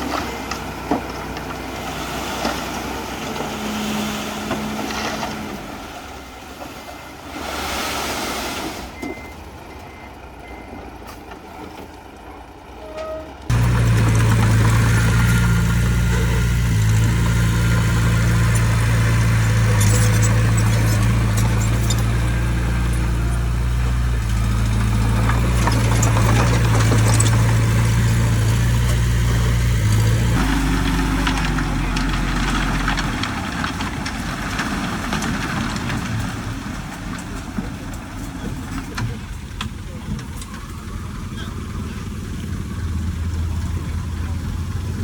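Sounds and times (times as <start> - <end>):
heavy machinery diesel engine: 0.0 - 7.2, 9.0 - 45.0.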